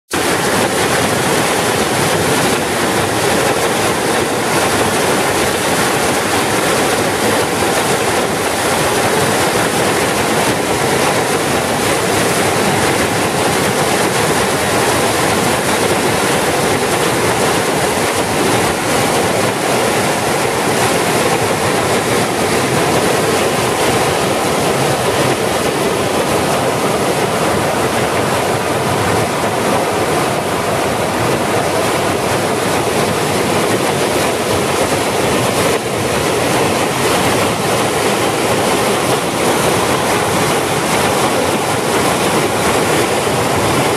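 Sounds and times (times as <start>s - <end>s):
floodwater rushing and churning: 0.1s - 43.9s.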